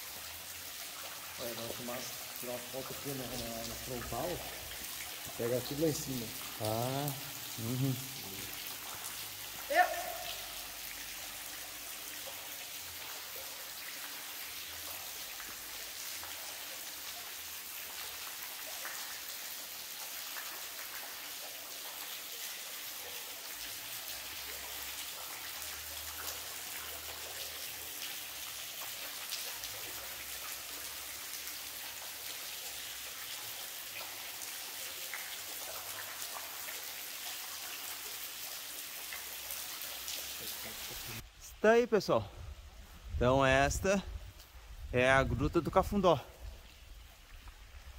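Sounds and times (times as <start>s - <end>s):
waterfall spattering: 0.0s - 42.2s.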